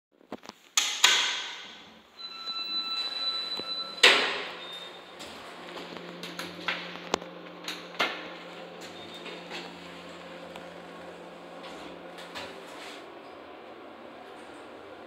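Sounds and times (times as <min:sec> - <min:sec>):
elevator low hum: 0:02.2 - 0:15.0.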